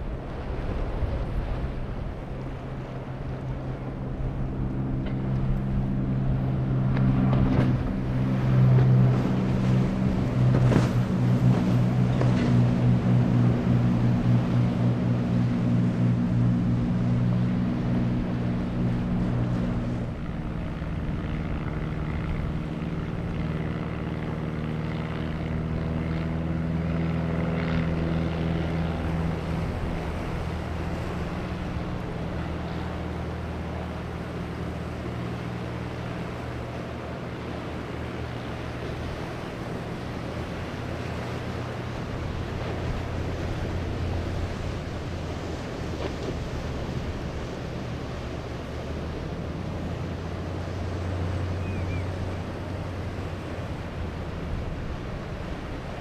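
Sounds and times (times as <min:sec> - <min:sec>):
boat engines droning: 0:00.0 - 0:56.0
spray and waves off hulls: 0:00.0 - 0:56.0.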